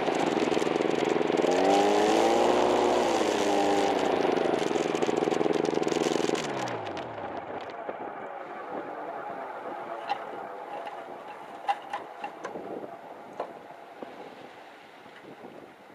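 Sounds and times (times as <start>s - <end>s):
engine and propeller running: 0.0s - 15.2s.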